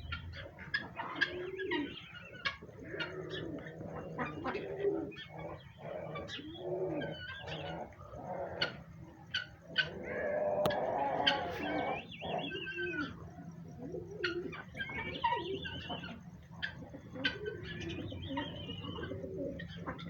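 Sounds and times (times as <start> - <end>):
low arched bird calls: 0.0 - 20.0
warbling bird chirps: 0.0 - 20.0.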